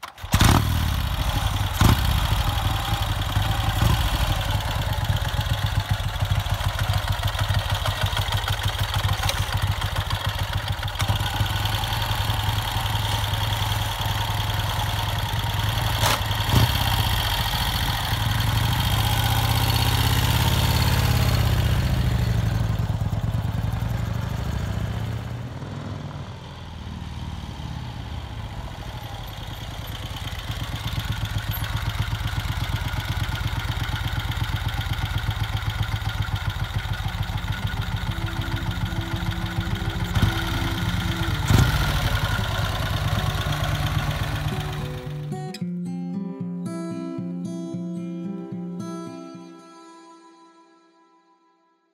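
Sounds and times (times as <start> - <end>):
motorcycle engine idling: 0.0 - 45.6.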